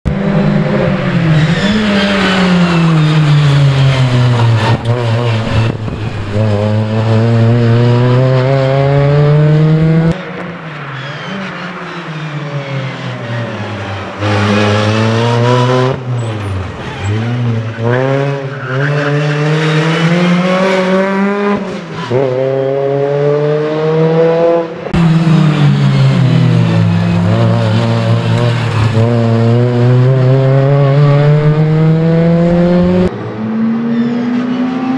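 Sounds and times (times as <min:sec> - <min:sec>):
rally car engine revving hard: 0:00.1 - 0:10.2, 0:13.3 - 0:34.9.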